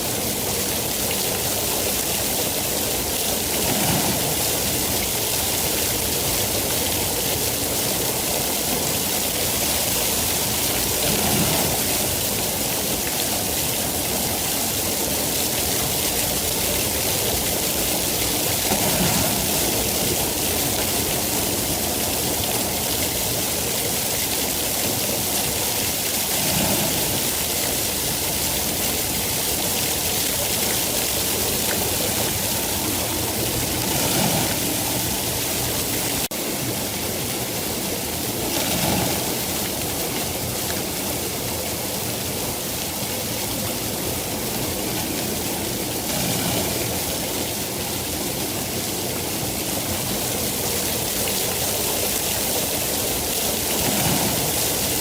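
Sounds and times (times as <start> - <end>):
dense rain hiss: 0.0 - 55.0.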